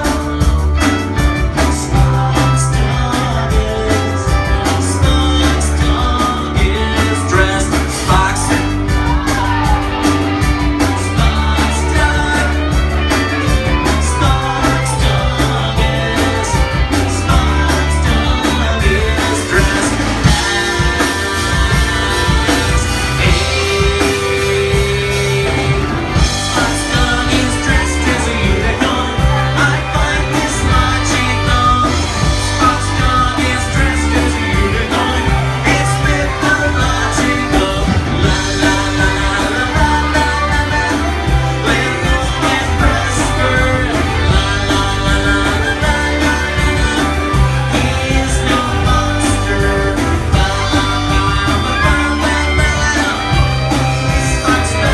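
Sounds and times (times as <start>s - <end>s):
live rock band playing: 0.0s - 54.9s
singer on lead vocals: 0.0s - 54.9s.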